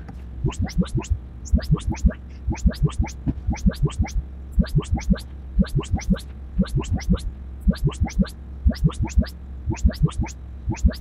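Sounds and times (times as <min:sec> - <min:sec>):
steady low hum: 0:00.0 - 0:11.0
short test chirps: 0:00.5 - 0:11.0.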